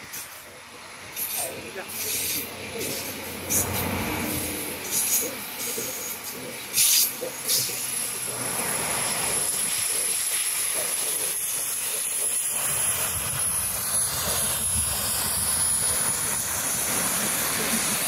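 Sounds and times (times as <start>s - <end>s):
steam locomotive exhaust roar: 0.0s - 18.0s
train running: 0.0s - 18.0s.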